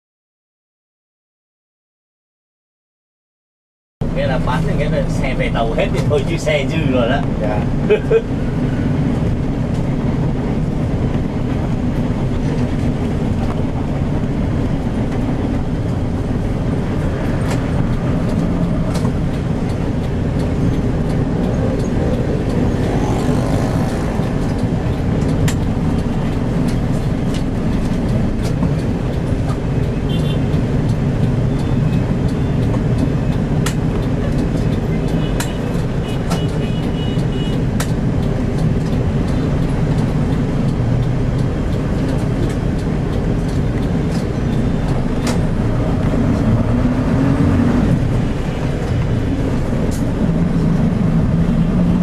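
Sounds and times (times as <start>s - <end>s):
bus engine and road rumble: 4.0s - 52.0s.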